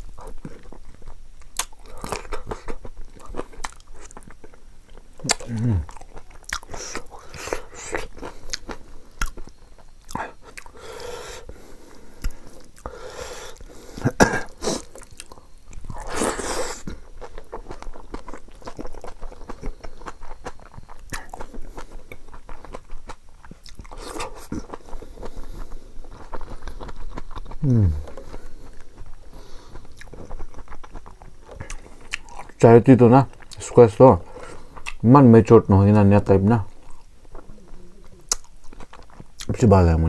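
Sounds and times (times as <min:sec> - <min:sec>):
crunchy bites: 0:00.0 - 0:35.0, 0:36.7 - 0:39.9
wet chewing and lip smacking: 0:00.0 - 0:35.1, 0:36.7 - 0:39.6.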